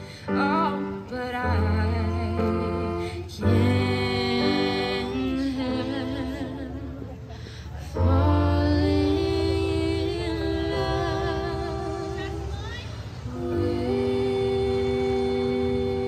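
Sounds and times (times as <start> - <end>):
woman singing with vibrato: 0.0 - 16.0.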